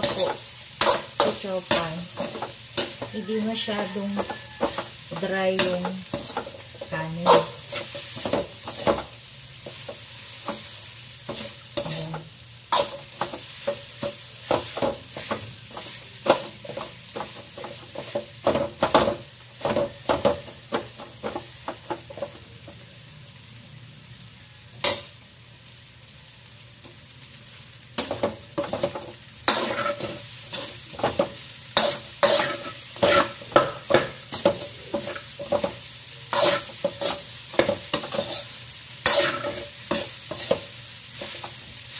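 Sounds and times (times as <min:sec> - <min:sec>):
metal utensil scraping a wok: 0:00.0 - 0:20.2, 0:28.0 - 0:41.7
frying sizzle: 0:00.0 - 0:41.9.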